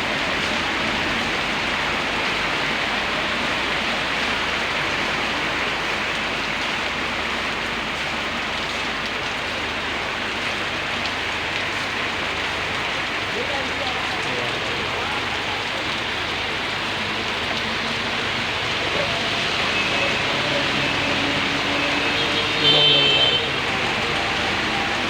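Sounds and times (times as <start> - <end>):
steady rain pattering: 0.0 - 25.0.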